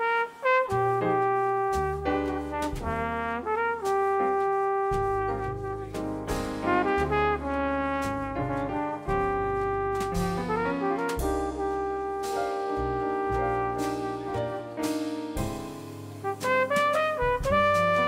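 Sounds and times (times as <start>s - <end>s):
brass horn solo: 0.0s - 6.0s, 6.6s - 15.1s, 16.2s - 18.0s
drum kit: 0.0s - 18.0s
piano: 0.0s - 18.0s
upright bass: 0.6s - 18.0s.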